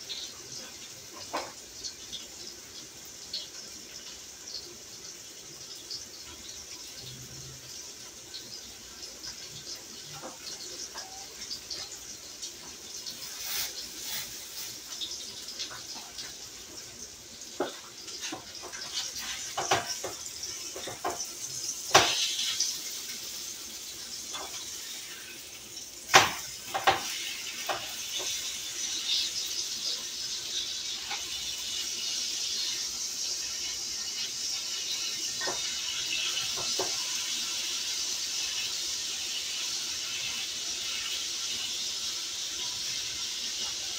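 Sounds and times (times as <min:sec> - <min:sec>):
patties sizzling in a frying pan: 0:00.0 - 0:43.9.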